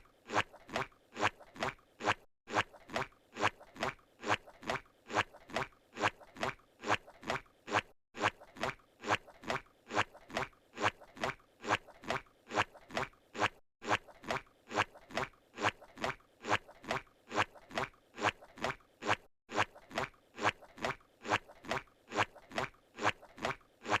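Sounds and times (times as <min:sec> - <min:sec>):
squishy cartoon footsteps: 0:00.0 - 0:24.0.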